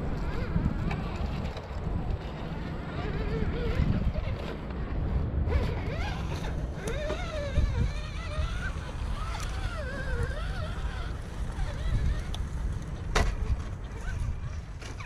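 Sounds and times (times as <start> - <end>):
electric motor and gears whining: 0.0 - 15.0
low wind rumble: 0.0 - 15.0.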